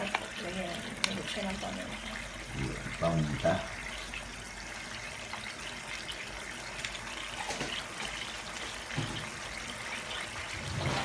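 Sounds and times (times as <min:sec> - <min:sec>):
sauce simmering hiss: 0:00.0 - 0:11.0.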